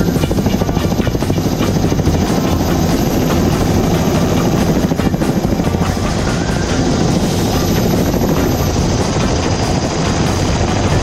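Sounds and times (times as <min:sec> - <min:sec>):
helicopter turbine and rotor noise: 0:00.0 - 0:11.0.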